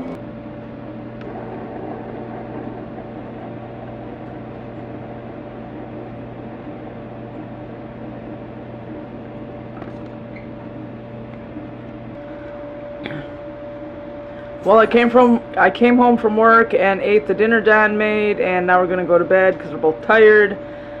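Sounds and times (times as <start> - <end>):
low hum with held tones: 0.0 - 21.0.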